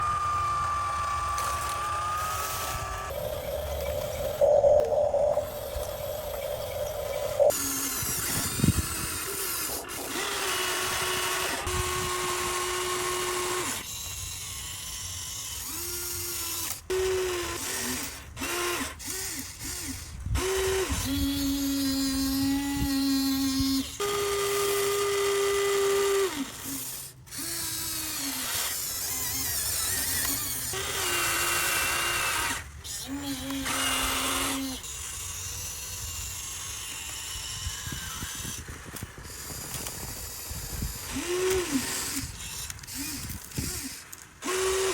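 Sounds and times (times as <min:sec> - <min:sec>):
small electric motors whining: 0:00.0 - 0:44.9.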